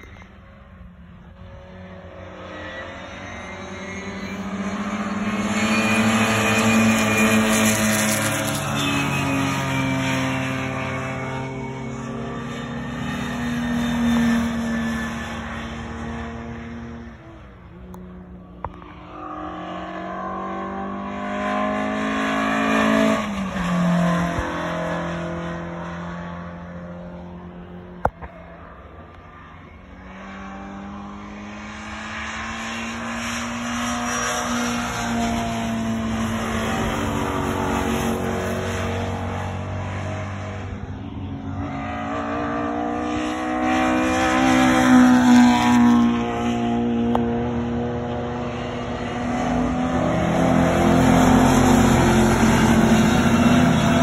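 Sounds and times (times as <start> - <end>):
racing car engine accelerating: 0.0 - 54.0.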